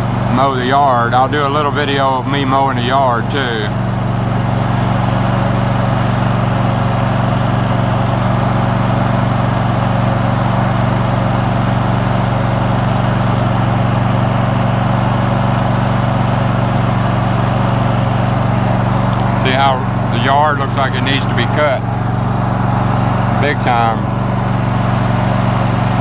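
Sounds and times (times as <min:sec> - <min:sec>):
riding mower engine droning: 0:00.0 - 0:26.0.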